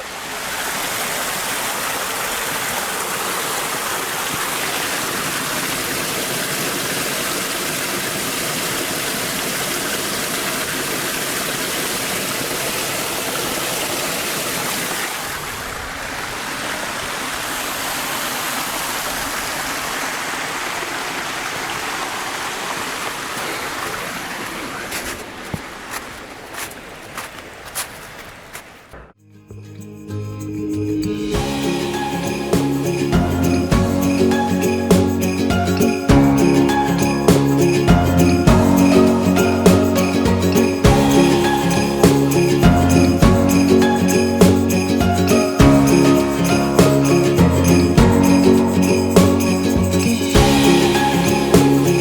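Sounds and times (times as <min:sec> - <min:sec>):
water pouring over waterfall: 0:00.0 - 0:24.9, 0:31.3 - 0:52.0.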